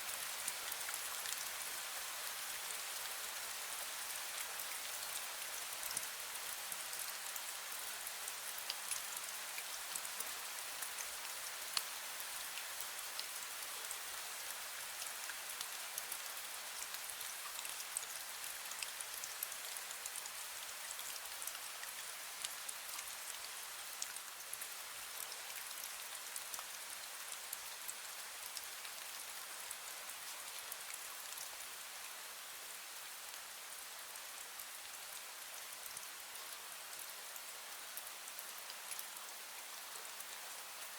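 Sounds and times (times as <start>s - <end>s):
fine rain ticking on surfaces: 0.0s - 40.9s.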